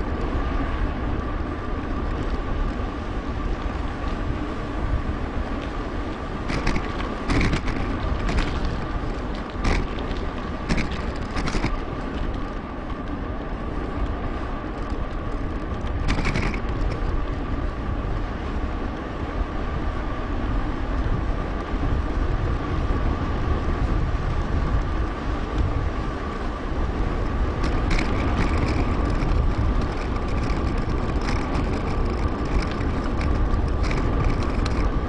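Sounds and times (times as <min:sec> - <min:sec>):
bicycle rattling over bumps: 0:00.0 - 0:35.0
wind and rolling rumble: 0:00.0 - 0:35.0.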